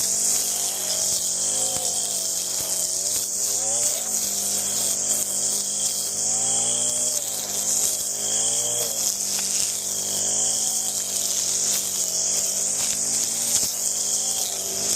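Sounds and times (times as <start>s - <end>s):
string trimmer engine revving: 0.0s - 14.9s.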